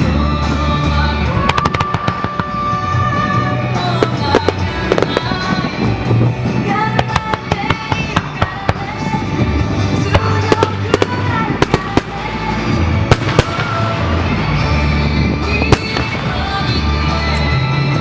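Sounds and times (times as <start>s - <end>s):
fireworks bangs and crackling: 0.0s - 18.0s
music with steady bass: 0.0s - 18.0s.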